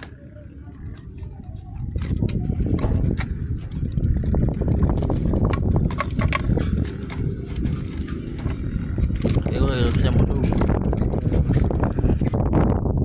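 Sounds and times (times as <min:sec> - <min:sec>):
metal tools clinking and knocking: 0:00.0 - 0:12.4
steady low rumble: 0:00.0 - 0:13.0.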